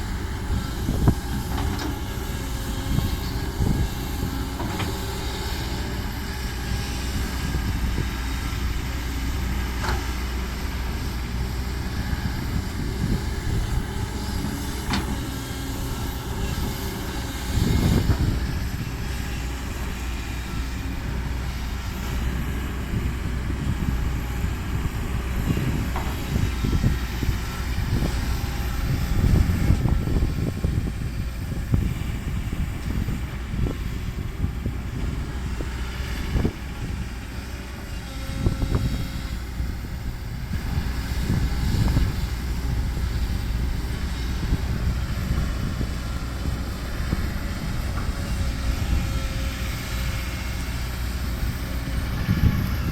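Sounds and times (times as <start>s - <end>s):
diesel truck engine running: 0.0s - 52.9s.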